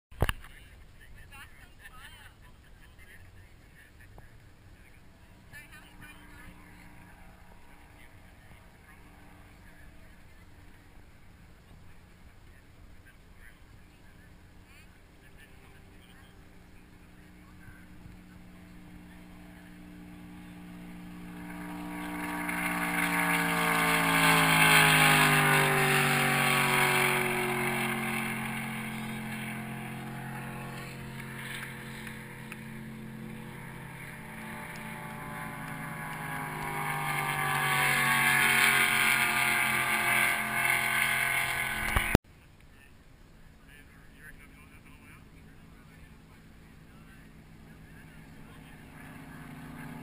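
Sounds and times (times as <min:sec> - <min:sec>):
speedboat engines passing: 0:00.4 - 0:42.2, 0:43.3 - 0:50.0.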